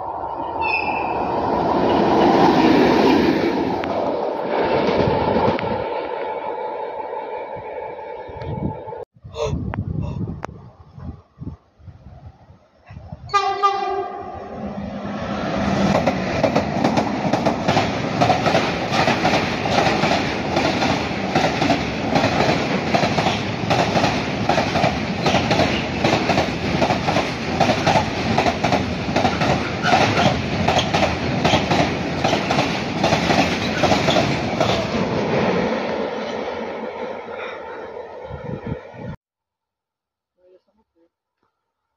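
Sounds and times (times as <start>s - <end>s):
freight train rumbling past: 0.0s - 9.0s, 13.2s - 39.2s.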